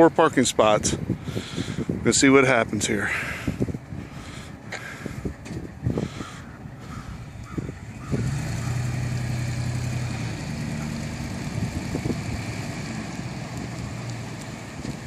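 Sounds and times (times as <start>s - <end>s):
suv engine driving slowly: 0.0s - 15.0s.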